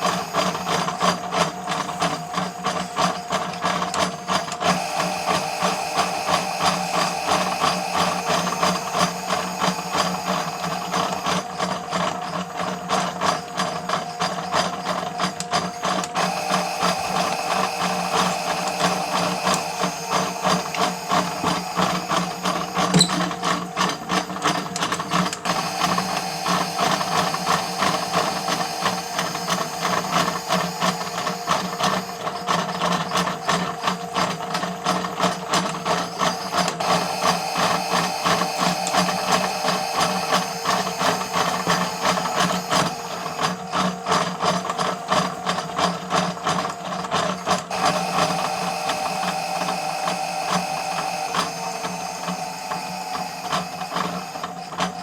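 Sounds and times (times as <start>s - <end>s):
toy washing machine motor humming: 0.0s - 55.0s.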